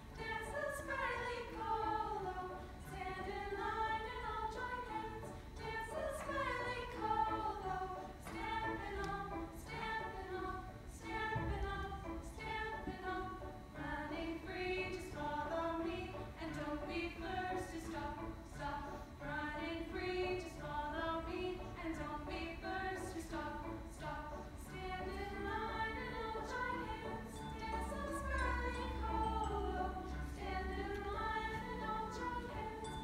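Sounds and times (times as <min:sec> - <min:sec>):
female choir singing: 0:00.0 - 0:33.0.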